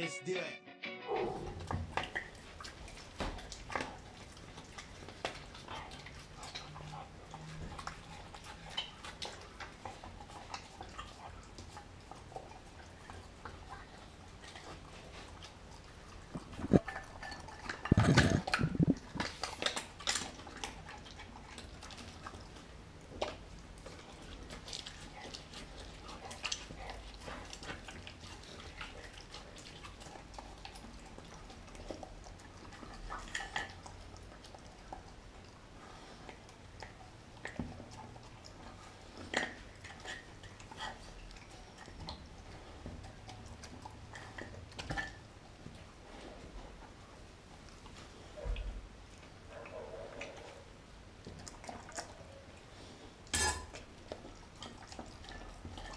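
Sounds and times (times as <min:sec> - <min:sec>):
dog chewing and clicking: 0:01.4 - 0:55.9.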